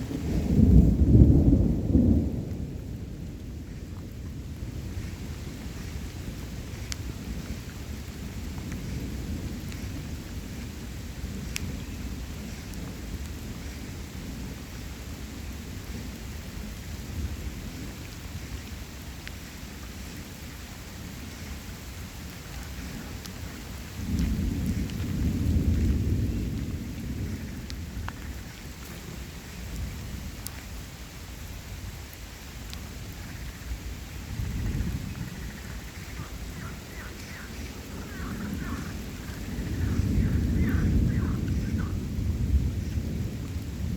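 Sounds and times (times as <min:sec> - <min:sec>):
thunder rumbling: 0:00.0 - 0:18.6, 0:21.1 - 0:30.8, 0:32.8 - 0:43.9
steady rain falling: 0:00.0 - 0:43.9.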